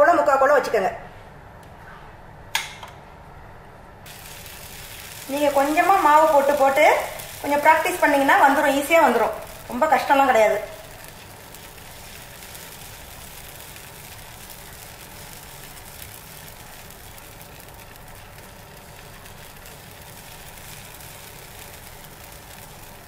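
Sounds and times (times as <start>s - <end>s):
batter hissing on pan: 4.1s - 23.0s.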